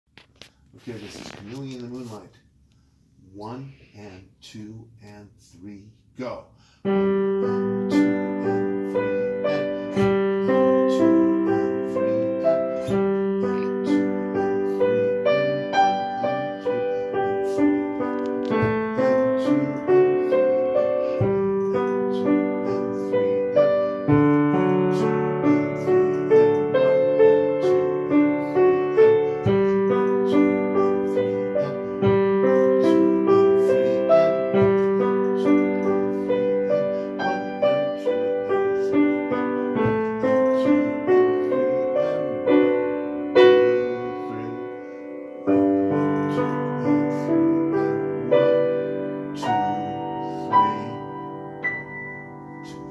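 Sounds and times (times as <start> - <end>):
solo piano gentle melody: 6.9 - 52.9.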